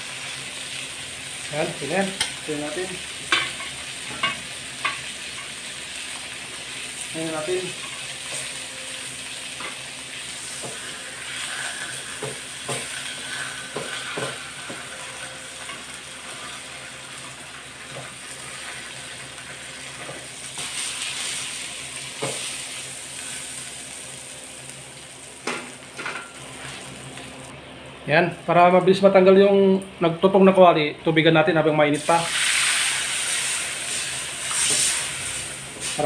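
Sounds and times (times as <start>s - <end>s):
pork sizzling in a wok: 0.0s - 27.5s, 31.9s - 36.0s.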